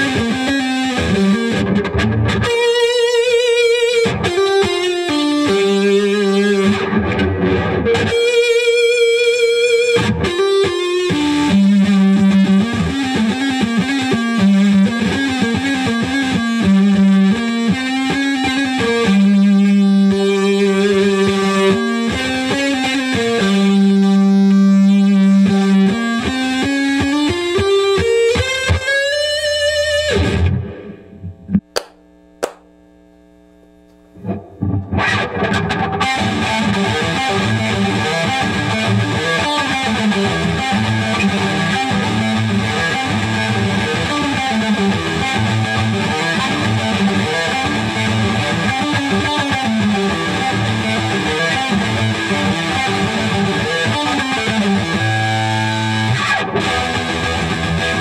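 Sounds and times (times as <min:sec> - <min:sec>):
distorted electric guitar riff: 0:00.0 - 0:58.0.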